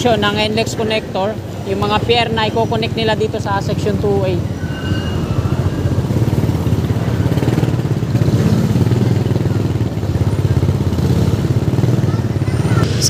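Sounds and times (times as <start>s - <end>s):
road and traffic noise: 0.0s - 13.0s
motorcycle engine running: 1.4s - 13.0s.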